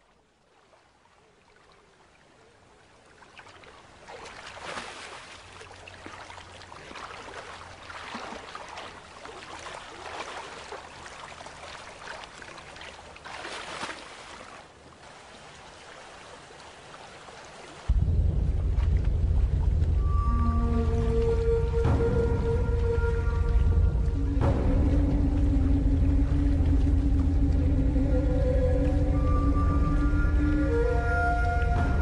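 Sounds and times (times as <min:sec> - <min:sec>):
water sloshing and splashing: 0:00.0 - 0:32.0.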